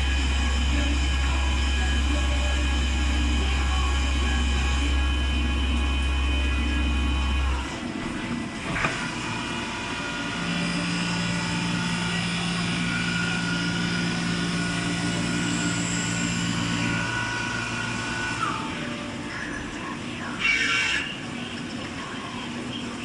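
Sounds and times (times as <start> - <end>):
lathes running: 0.0 - 19.8
low machine tone: 0.0 - 23.0.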